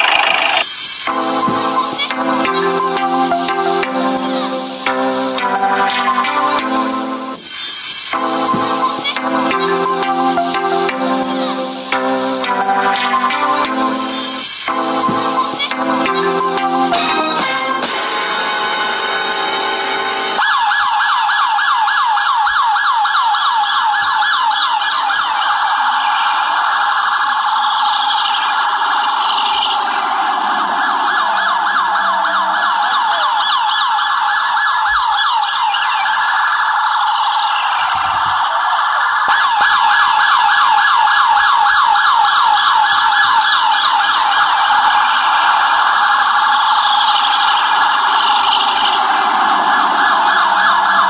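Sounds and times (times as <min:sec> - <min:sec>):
electronic toy siren wailing: 0:00.0 - 0:03.8, 0:12.5 - 0:51.0.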